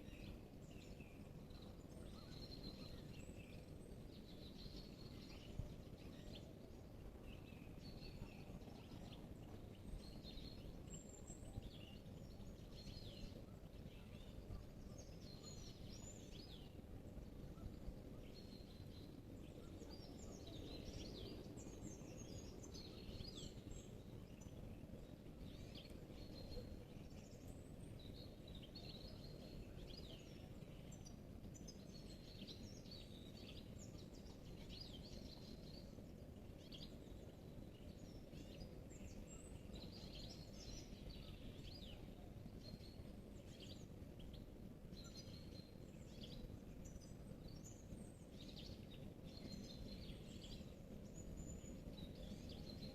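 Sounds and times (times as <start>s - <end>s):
low background rumble: 0.0s - 52.9s
songbirds chirping and trilling: 0.0s - 52.9s.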